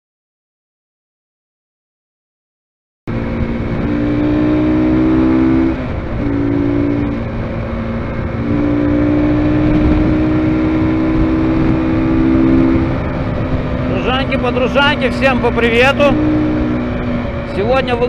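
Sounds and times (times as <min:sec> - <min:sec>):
motorcycle engine accelerating: 0:03.1 - 0:18.0
wind rushing over microphone: 0:03.1 - 0:18.0.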